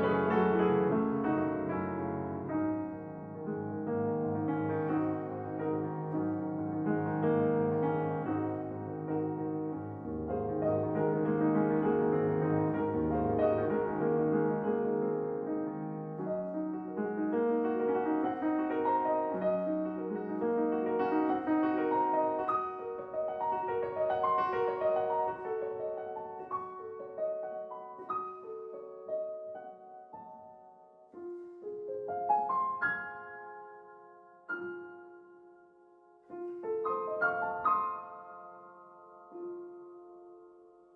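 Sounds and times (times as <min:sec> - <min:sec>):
slow piano music: 0:00.0 - 0:40.9.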